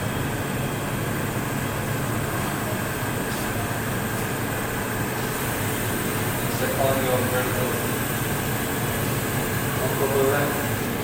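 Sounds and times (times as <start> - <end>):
low hum with air hiss: 0.0 - 11.0.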